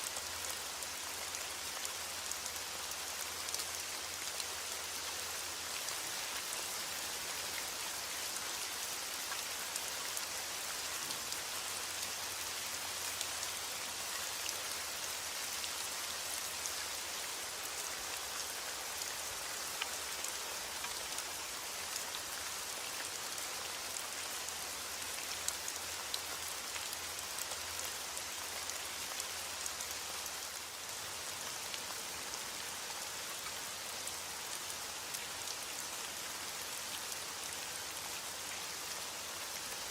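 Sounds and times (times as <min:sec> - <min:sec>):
heavy rain on a surface: 0:00.0 - 0:39.9.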